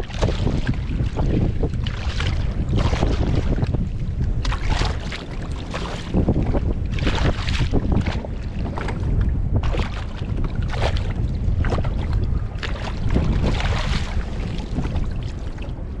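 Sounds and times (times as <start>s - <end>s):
water splashing against kayak: 0.0s - 16.0s
wind buffeting microphone: 0.0s - 16.0s.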